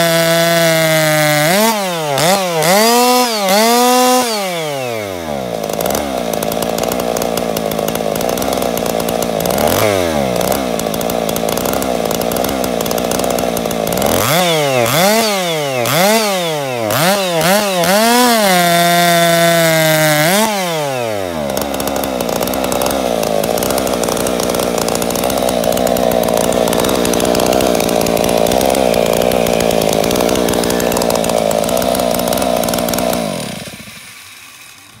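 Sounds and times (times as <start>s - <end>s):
chainsaw cutting wood: 0.0s - 35.0s
chainsaw revving: 0.0s - 35.0s.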